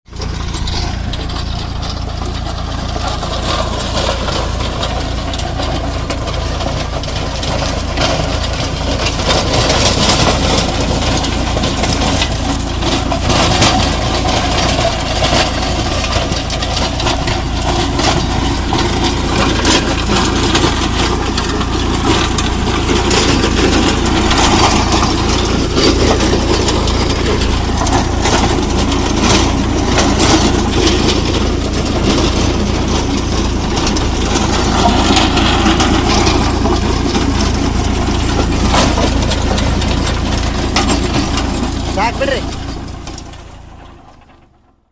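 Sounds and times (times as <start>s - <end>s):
tractor engine running: 0.0s - 44.9s
rotavator clattering and rattling: 0.1s - 44.8s.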